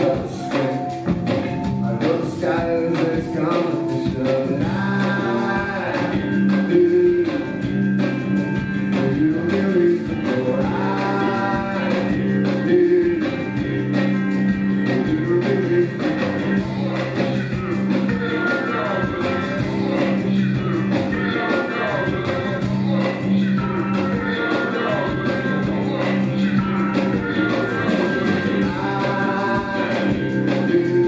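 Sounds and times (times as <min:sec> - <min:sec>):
live rock band playing: 0:00.0 - 0:31.0
person singing: 0:00.0 - 0:31.0.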